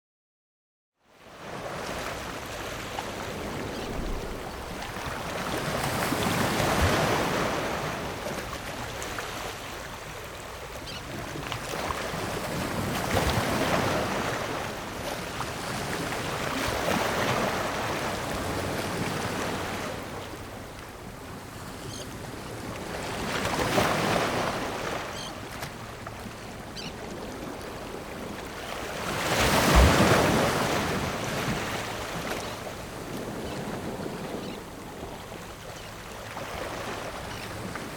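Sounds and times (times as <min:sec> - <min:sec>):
ocean waves breaking on rocks: 0:01.4 - 0:37.9.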